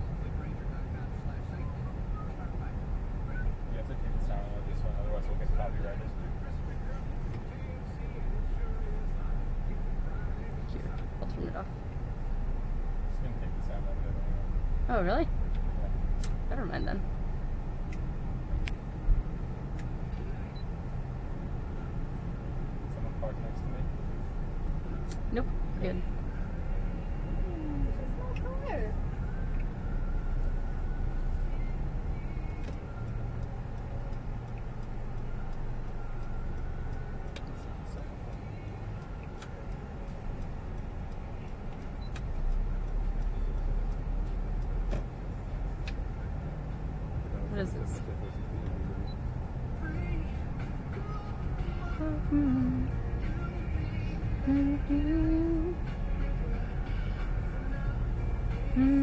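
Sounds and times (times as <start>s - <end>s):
car engine low rumble: 0.0s - 59.0s.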